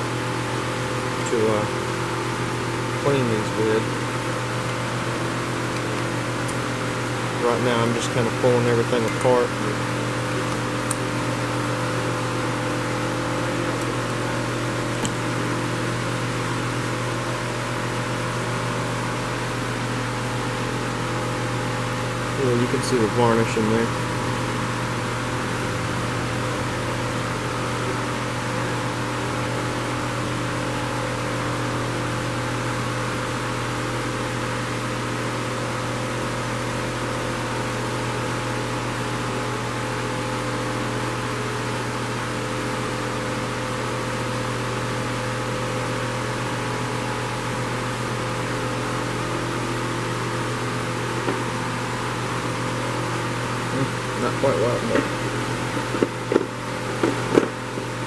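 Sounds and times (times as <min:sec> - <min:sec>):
machine hum with hiss: 0:00.0 - 0:58.0.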